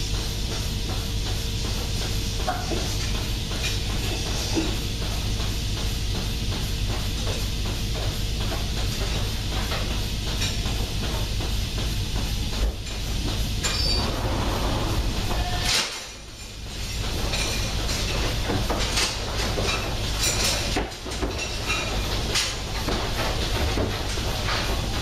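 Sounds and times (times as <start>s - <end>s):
milking machinery rumbling: 0.0s - 25.0s.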